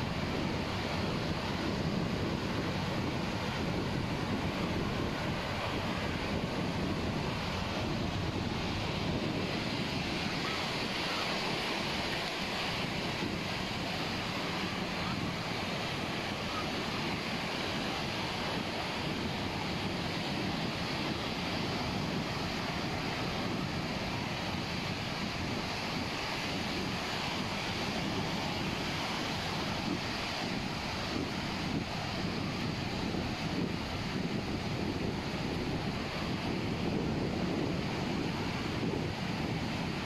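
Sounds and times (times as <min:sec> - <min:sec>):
surf breaking on a beach: 0:00.0 - 0:40.0
wind buffeting microphone: 0:00.0 - 0:40.0.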